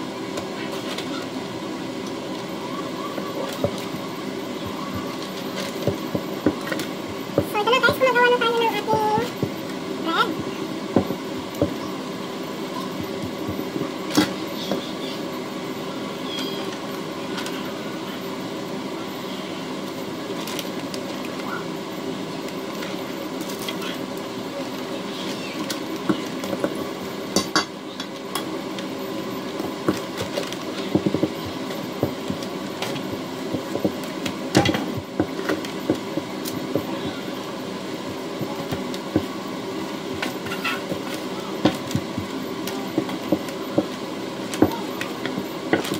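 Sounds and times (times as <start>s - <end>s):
steady background hum: 0.0s - 45.9s
rolling pin rolling over dough: 0.3s - 15.3s, 22.2s - 45.9s.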